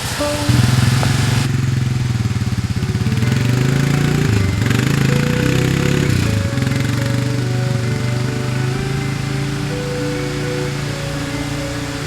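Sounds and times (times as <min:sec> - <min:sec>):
vehicle engine under load: 0:00.0 - 0:12.0.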